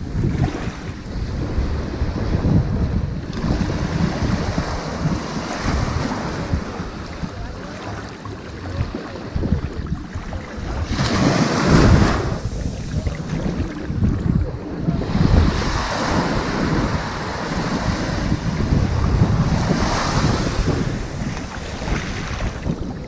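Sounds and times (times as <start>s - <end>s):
ocean waves on sandy beach: 0.0s - 23.0s
wind on microphone: 0.0s - 23.0s.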